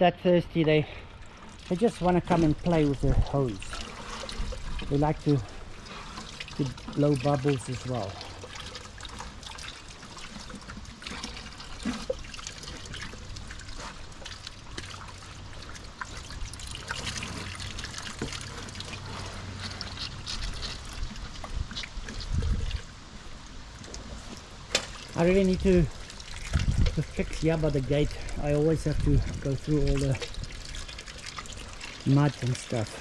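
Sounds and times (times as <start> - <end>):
water splashing from a garden hose: 1.1 - 33.0.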